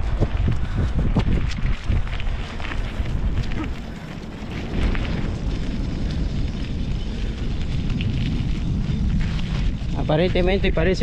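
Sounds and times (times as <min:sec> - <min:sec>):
faint footfalls on pavement: 0:00.0 - 0:11.0
wind buffeting microphone: 0:00.0 - 0:11.0.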